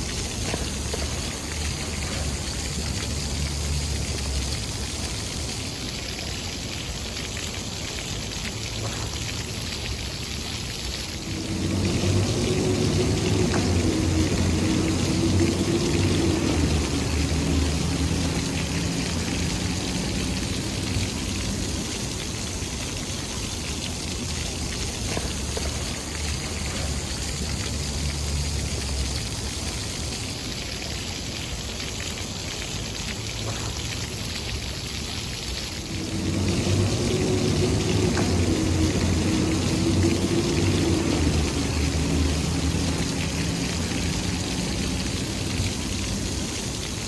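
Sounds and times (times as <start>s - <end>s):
city traffic hum: 0.0s - 47.0s
fountain jets splashing: 0.0s - 47.0s.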